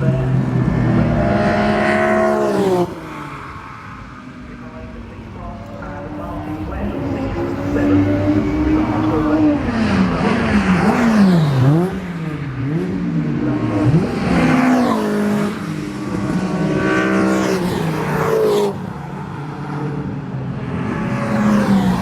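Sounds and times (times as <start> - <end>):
racing car engines passing: 0.0 - 22.0.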